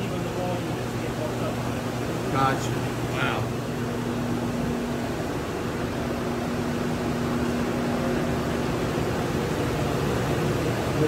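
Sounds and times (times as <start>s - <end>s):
air conditioning and fans rushing: 0.0s - 11.0s
low steady hum: 0.0s - 11.0s.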